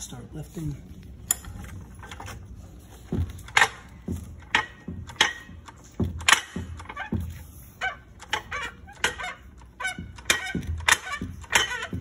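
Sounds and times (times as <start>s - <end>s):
hydraulic jack pumping clunks: 1.2s - 12.0s.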